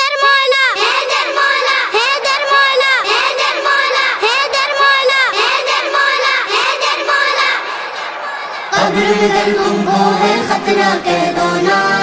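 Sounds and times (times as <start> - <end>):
children singing devotional song: 0.0 - 12.0.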